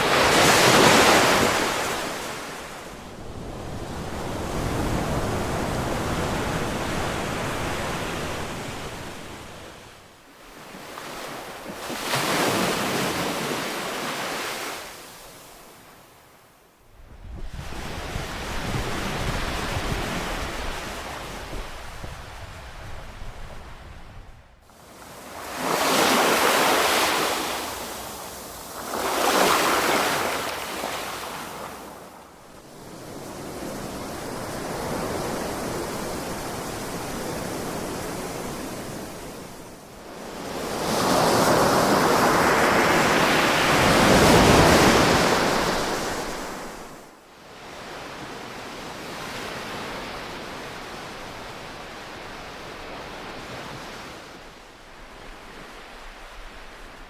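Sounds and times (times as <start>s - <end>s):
ocean waves breaking on shore: 0.0s - 16.3s, 17.4s - 57.0s.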